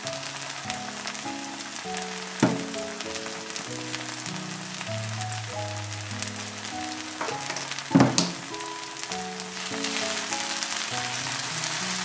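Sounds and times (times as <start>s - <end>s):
food sizzling in frying pan: 0.0s - 12.0s
spatula stir-frying: 0.0s - 12.0s.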